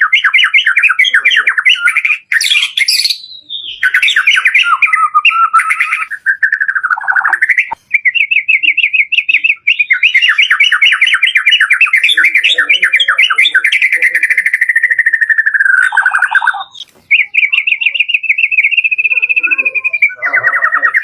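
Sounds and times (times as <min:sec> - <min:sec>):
songbird singing trills: 0:00.0 - 0:21.0.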